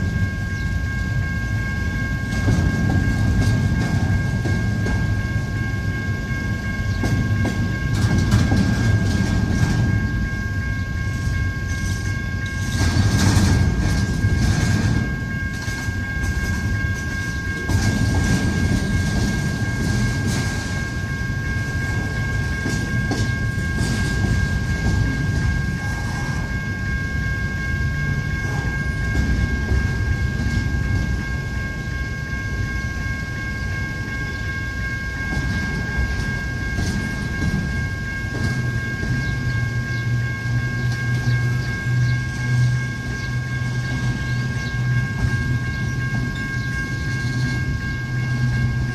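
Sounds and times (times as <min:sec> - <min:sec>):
freight train rumbling past: 0:00.0 - 0:48.9
wheels clicking over rail joints: 0:00.0 - 0:48.9.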